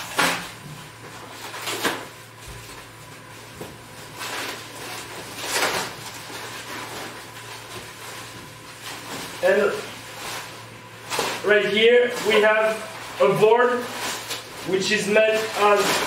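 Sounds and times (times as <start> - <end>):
plastic packaging rustling: 0.0 - 16.0.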